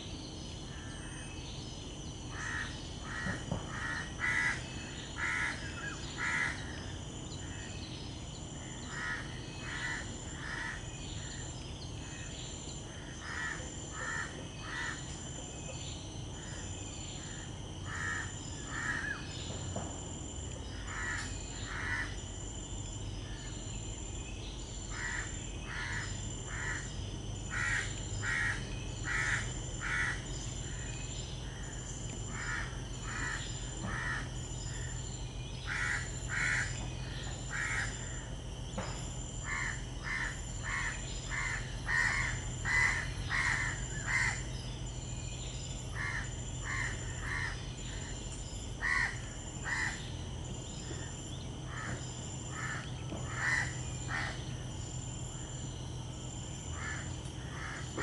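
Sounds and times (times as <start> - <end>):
low background rumble: 0.0 - 58.0
pulsing insect drone: 0.0 - 58.0.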